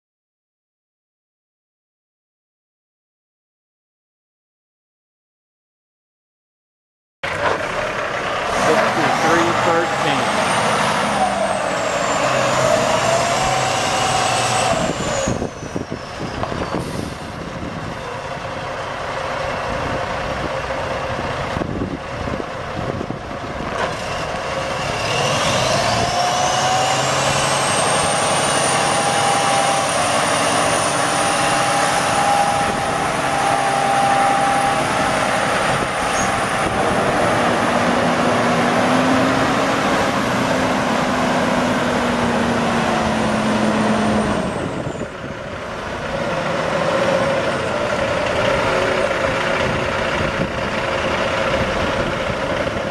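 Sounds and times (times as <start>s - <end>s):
diesel truck engine running: 7.2s - 52.9s.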